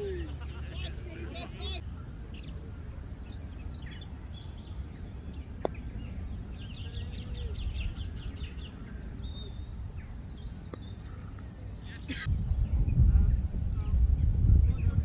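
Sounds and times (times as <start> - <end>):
small birds chirping: 0.0 - 13.2
steady low rumble: 0.0 - 15.0.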